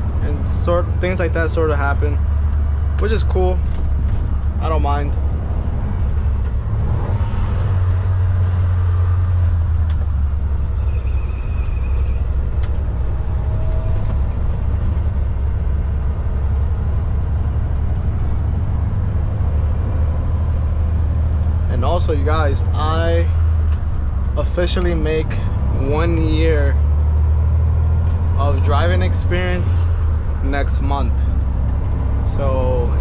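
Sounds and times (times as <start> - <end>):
diesel truck engine drone: 0.0 - 33.0
road noise: 0.0 - 33.0.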